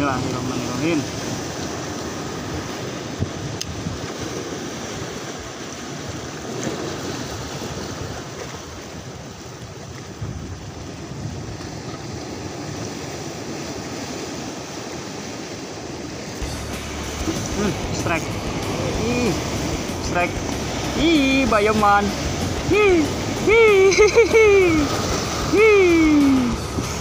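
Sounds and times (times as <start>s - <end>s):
wind on microphone: 0.0s - 5.2s, 6.8s - 14.4s, 16.3s - 27.0s
surf breaking on rocks: 0.0s - 27.0s.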